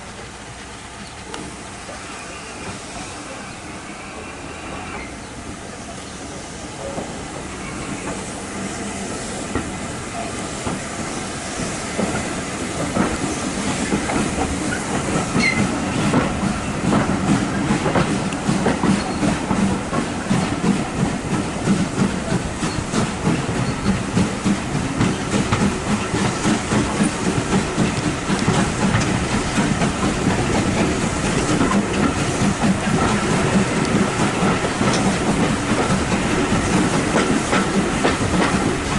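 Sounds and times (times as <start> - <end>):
train wheels clattering on rails: 4.2 - 38.9.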